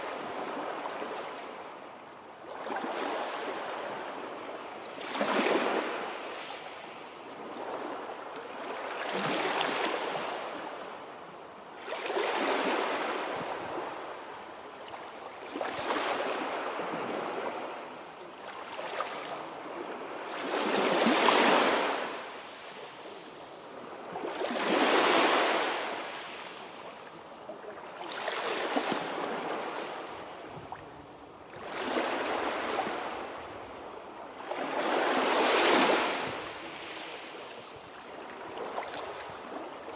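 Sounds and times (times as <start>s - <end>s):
sea waves breaking on shore: 2.4s - 11.0s, 11.8s - 39.9s.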